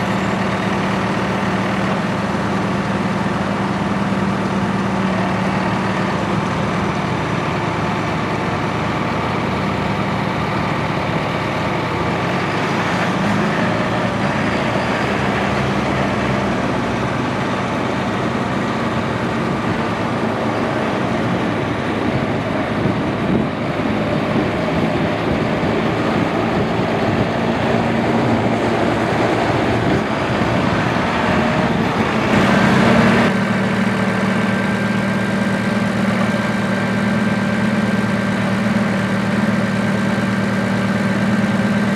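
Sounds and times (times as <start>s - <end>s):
tractor diesel engine: 0.0s - 41.9s.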